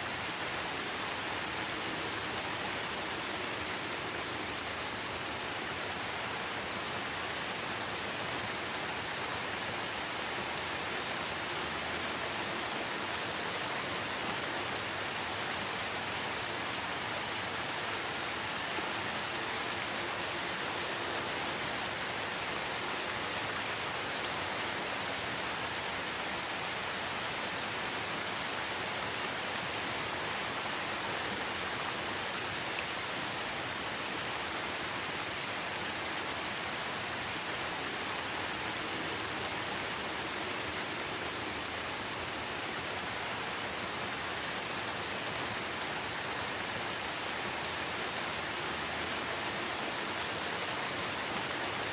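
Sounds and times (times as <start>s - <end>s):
heavy rain on leaves: 0.0s - 51.9s.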